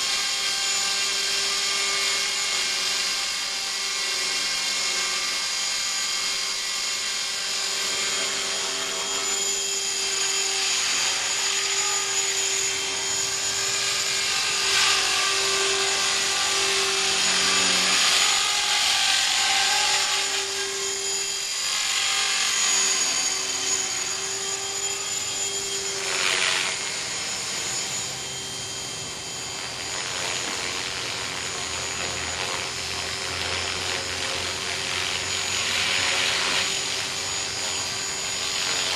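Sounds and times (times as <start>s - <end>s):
electric motor high whine: 0.0s - 38.9s.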